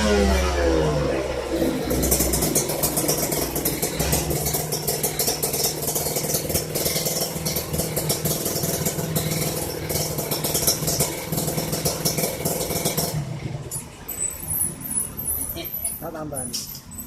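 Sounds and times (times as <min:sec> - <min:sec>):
motorcycle engine idling: 0:00.0 - 0:14.1.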